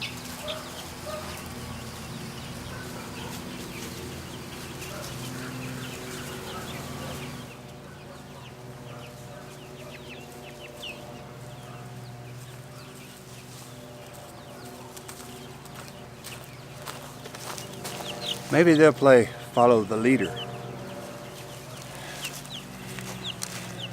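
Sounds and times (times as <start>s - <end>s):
chicks peeping and clucking: 0.0s - 23.9s
steady low hum: 0.0s - 23.9s.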